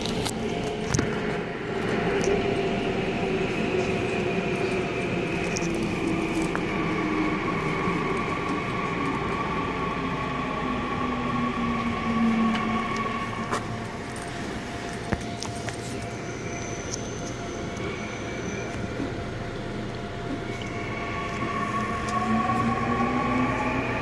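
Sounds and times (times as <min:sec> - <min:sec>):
higher whine: 0:00.0 - 0:24.0
train wheels rumbling on rail: 0:00.0 - 0:24.0.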